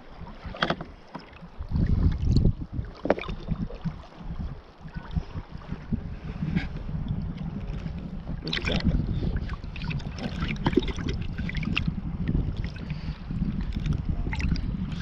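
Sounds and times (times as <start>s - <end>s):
paddle strokes splashing: 0.0s - 15.0s
wind rumble on microphone: 0.0s - 15.0s.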